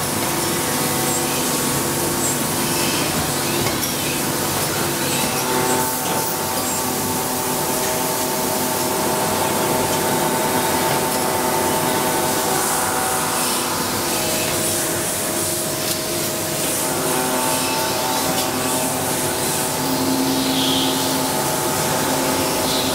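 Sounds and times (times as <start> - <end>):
machine hum and hiss: 0.0 - 22.9.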